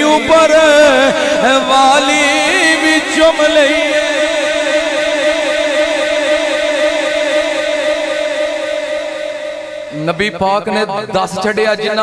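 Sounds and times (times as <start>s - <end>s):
man chanting a long note: 0.0s - 12.0s.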